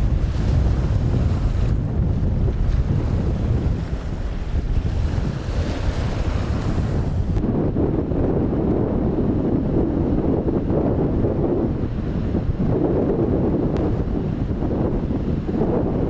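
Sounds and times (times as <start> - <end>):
rough sea and surf: 0.0 - 16.0
strong wind buffeting microphone: 0.0 - 16.0.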